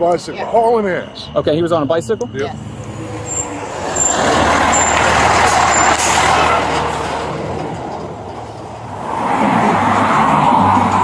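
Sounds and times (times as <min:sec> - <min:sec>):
fire engine driving past: 0:00.0 - 0:11.0.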